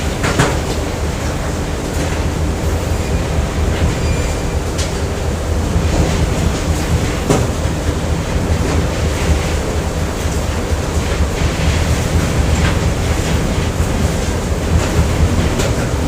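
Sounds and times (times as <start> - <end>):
heavy low machinery rumble: 0.0 - 16.0.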